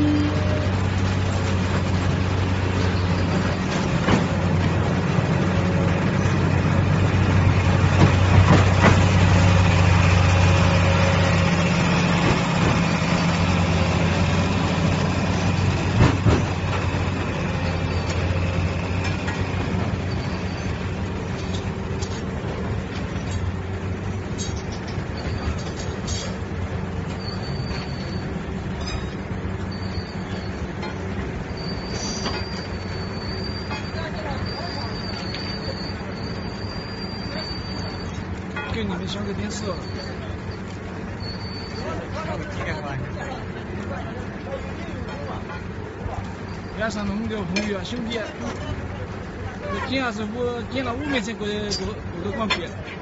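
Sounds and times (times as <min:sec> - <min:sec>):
heavy engine humming: 0:00.0 - 0:53.0.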